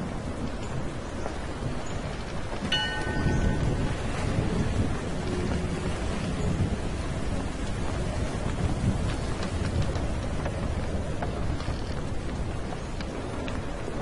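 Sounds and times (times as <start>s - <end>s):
rain: 0.0s - 14.0s
low rumbling thunder: 2.8s - 14.0s.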